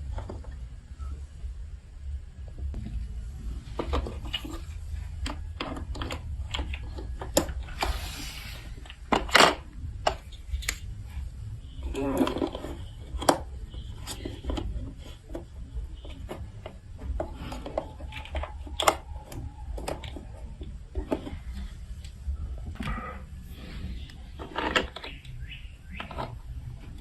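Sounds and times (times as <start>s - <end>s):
plastic blocks clicking and clattering: 2.8s - 27.0s.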